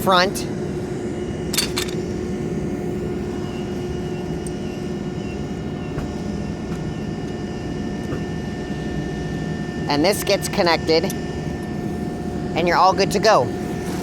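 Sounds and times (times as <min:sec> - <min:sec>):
aircraft engines humming and whining: 0:00.0 - 0:14.0.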